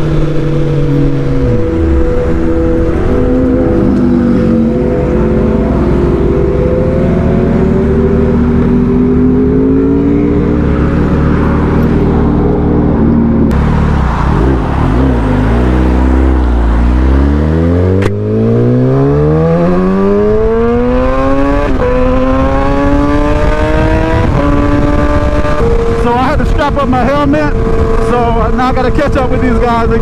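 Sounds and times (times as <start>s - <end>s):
motorcycle engine revving: 0.0s - 30.0s
wind noise: 0.0s - 30.0s.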